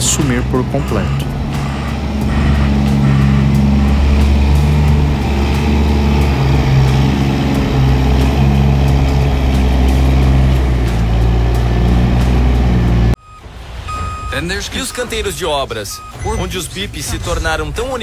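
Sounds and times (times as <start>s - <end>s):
diesel engine running: 0.0s - 15.6s.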